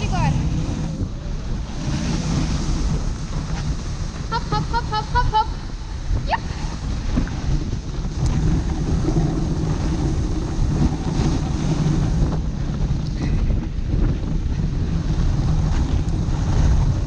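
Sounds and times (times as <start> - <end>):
sled runners gliding over snow: 0.0 - 17.0
wind on microphone: 0.0 - 17.0.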